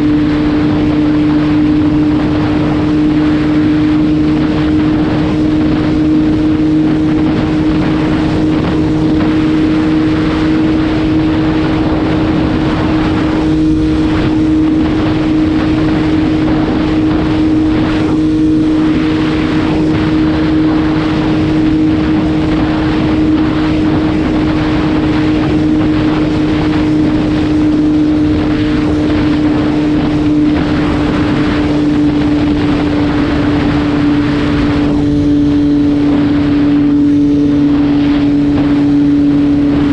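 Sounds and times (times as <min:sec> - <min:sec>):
motorcycle engine drone: 0:00.0 - 0:39.9
rushing noise: 0:00.0 - 0:39.9.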